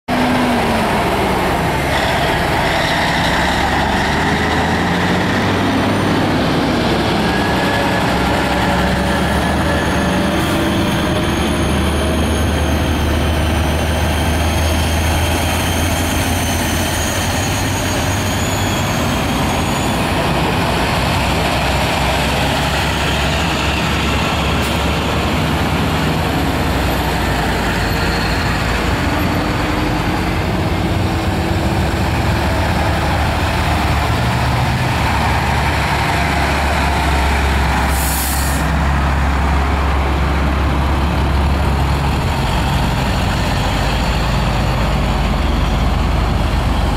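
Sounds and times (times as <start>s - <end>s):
diesel trucks driving past: 0.1s - 46.9s.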